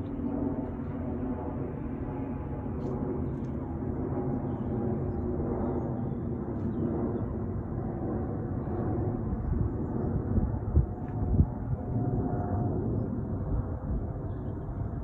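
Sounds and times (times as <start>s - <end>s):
airliner engines rumbling overhead: 0.0s - 15.0s.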